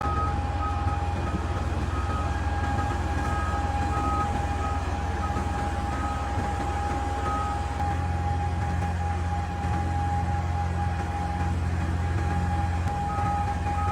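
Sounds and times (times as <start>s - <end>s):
constant high whine: 0.0s - 13.9s
excavator diesel engine drone: 0.0s - 13.9s.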